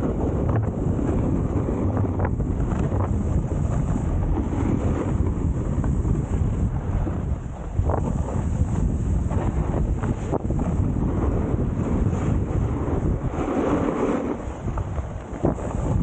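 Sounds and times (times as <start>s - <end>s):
skis scraping on snow: 0.0s - 16.0s
wind rushing over microphone: 0.0s - 16.0s.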